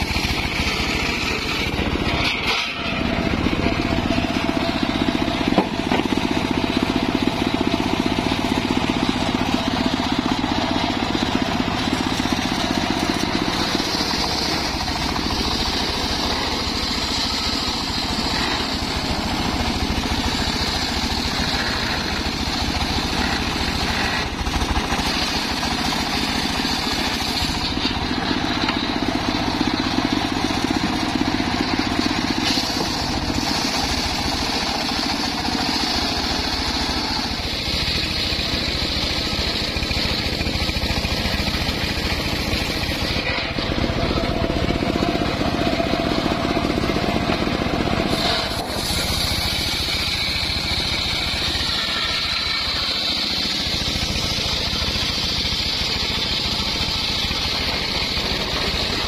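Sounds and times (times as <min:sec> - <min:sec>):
saw blade cutting log: 0:00.0 - 0:59.0
sawmill engine running: 0:00.0 - 0:59.0.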